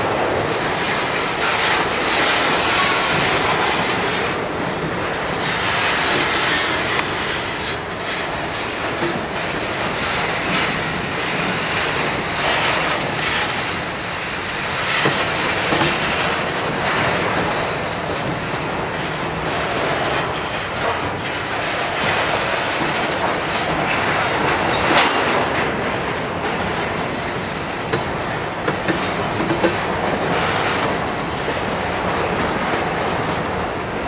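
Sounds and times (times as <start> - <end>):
train wheels rumbling on rail: 0.0 - 34.0
wheels and couplings clattering: 0.0 - 34.0.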